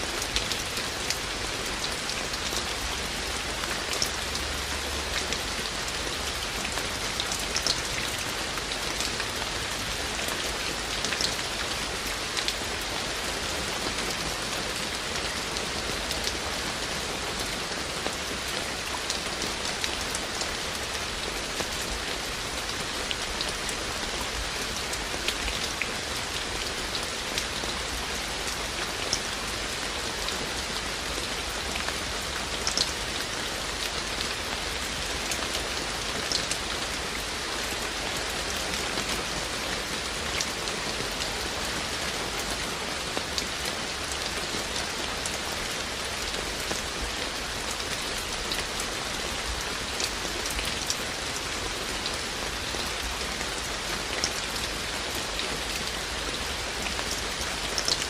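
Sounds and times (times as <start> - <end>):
raindrops ticking on surfaces: 0.0 - 58.0
steady rain falling: 0.0 - 58.0.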